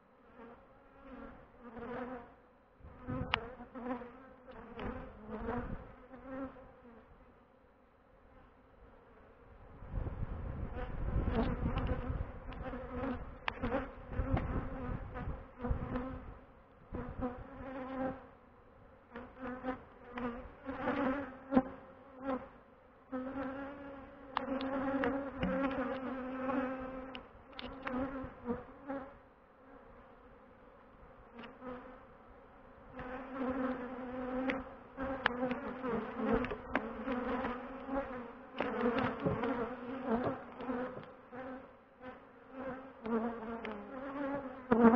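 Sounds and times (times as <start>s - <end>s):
honeybees buzzing: 0.2s - 7.1s, 10.7s - 44.9s.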